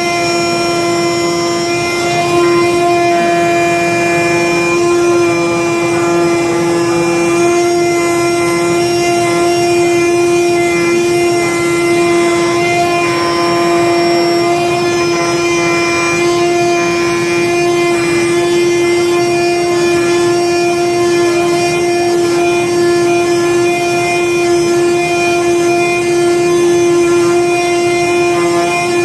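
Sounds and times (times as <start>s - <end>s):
cutting machine humming: 0.0s - 29.0s.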